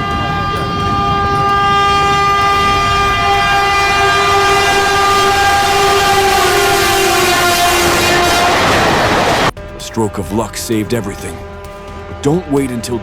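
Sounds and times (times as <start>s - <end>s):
train horn blast: 0.0s - 9.5s, 11.0s - 13.0s.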